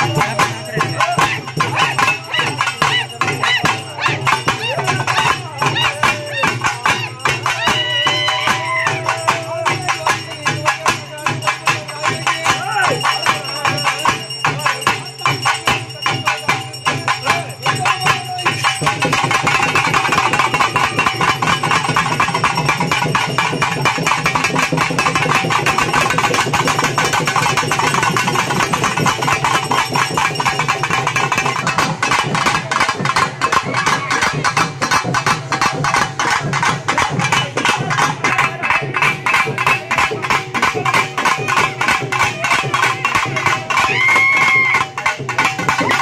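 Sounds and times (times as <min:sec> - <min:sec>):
fast festival drumming: 0:00.0 - 0:46.0.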